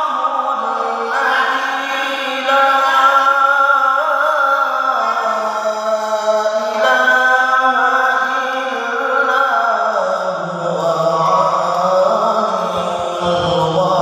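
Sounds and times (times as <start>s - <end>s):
person chanting melodically: 0.0s - 14.0s.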